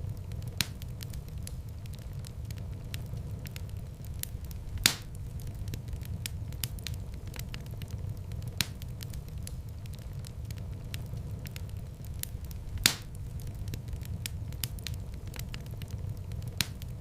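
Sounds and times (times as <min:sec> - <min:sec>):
loud fire pops: 0:00.0 - 0:17.0
wood fire crackling: 0:00.0 - 0:17.0.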